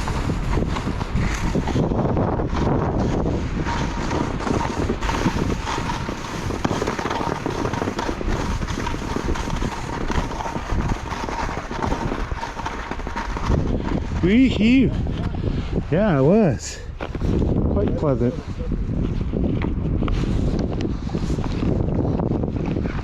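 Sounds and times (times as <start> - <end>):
skis scraping through snow: 0.0 - 23.0
wind buffeting microphone: 0.0 - 23.0.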